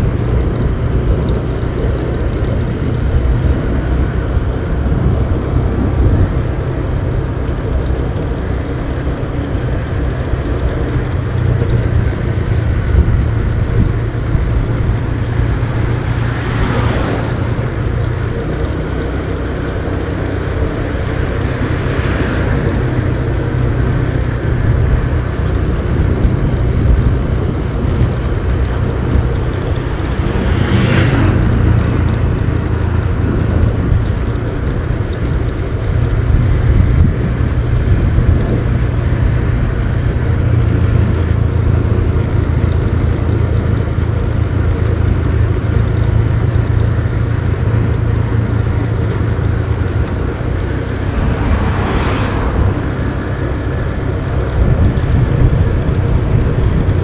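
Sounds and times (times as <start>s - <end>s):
motorbike engine running: 0.0s - 57.0s
wind and road noise: 0.0s - 57.0s.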